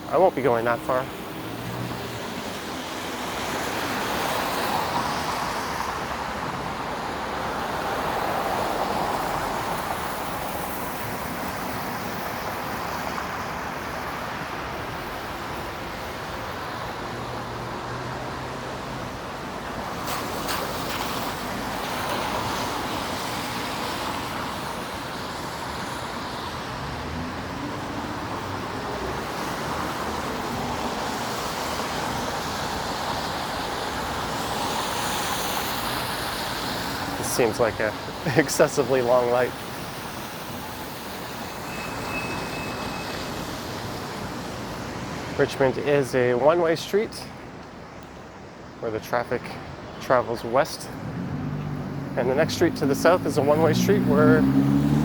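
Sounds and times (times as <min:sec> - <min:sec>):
cars passing: 0:00.0 - 0:55.0.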